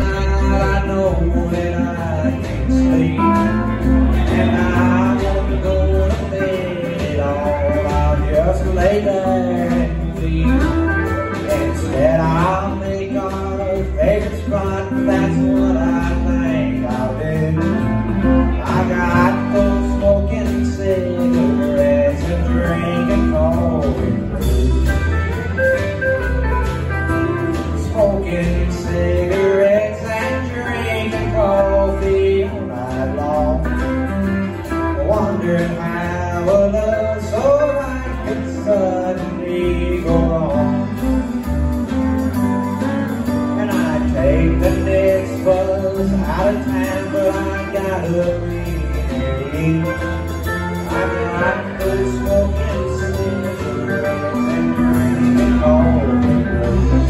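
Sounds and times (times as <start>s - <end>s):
acoustic guitar: 0.0s - 57.0s
bass: 0.0s - 57.0s
drums: 0.0s - 57.0s
electric guitar: 0.0s - 57.0s.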